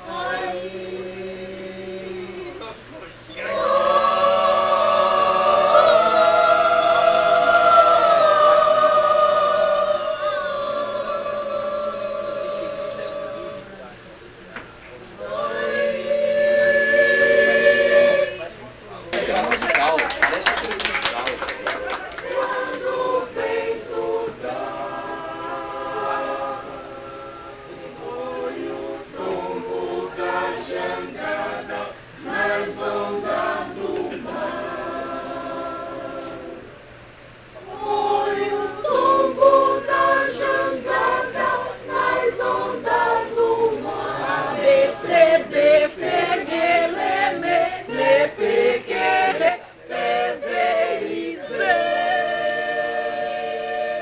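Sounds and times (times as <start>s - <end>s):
group singing in chorus: 0.0s - 13.9s, 15.2s - 18.5s, 21.1s - 36.9s, 37.6s - 54.0s.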